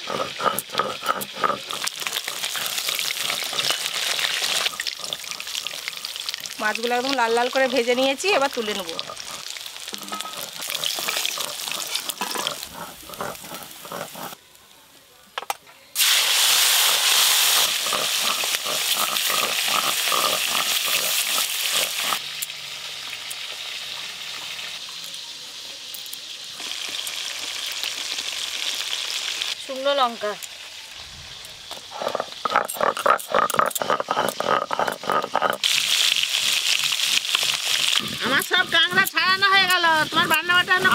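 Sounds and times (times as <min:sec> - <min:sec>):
fish sizzling in hot oil: 0:00.0 - 0:14.4, 0:16.0 - 0:40.9.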